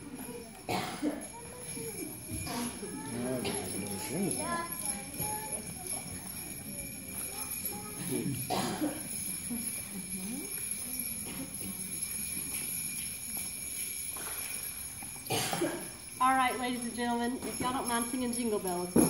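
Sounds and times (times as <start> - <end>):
children and adults chattering: 0.0 - 19.0
small bells being shaken: 0.0 - 19.0.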